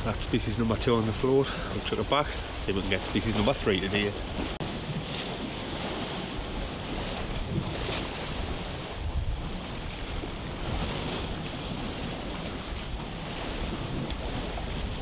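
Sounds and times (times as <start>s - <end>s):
sea washing against rocky shore: 0.0s - 15.0s
wind buffeting microphone: 0.0s - 15.0s.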